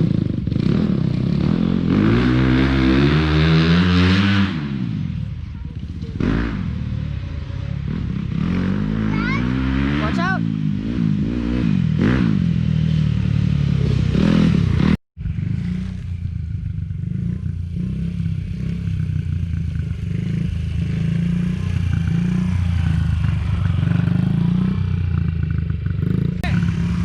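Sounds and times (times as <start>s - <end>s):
dirt bike engine revving: 0.0s - 5.2s, 6.0s - 27.0s.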